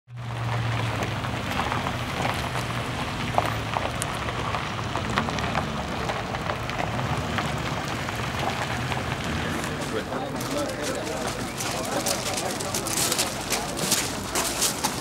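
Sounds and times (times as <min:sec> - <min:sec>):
engines humming: 0:00.1 - 0:15.0
tyres crackling on gravel: 0:00.1 - 0:15.0.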